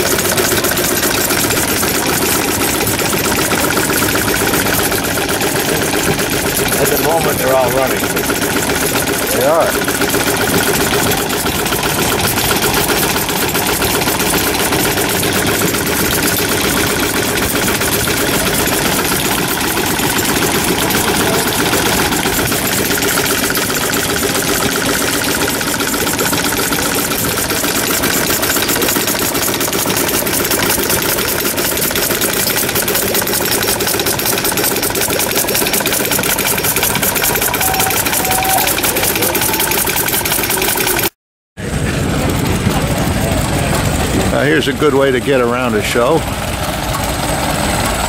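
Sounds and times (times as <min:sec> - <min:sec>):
old engines clattering: 0:00.0 - 0:48.0.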